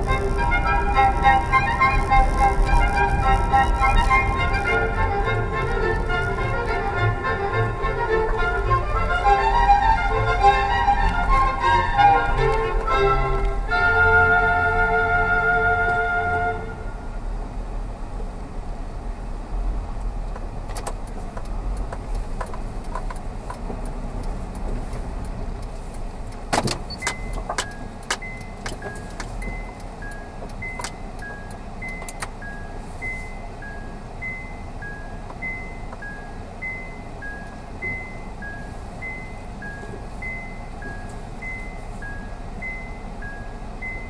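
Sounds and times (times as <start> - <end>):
car rumble from inside cabin: 0.0 - 44.0.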